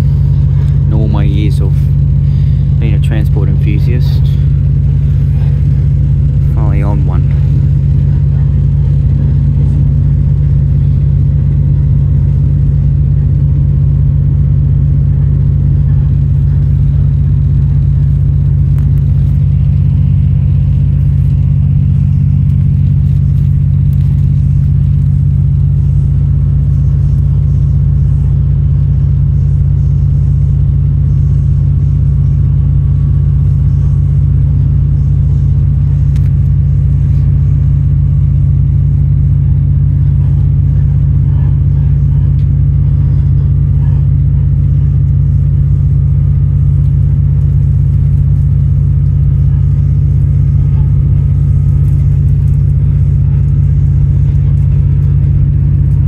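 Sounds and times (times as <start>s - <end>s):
diesel railcar engine drone: 0.0s - 56.0s.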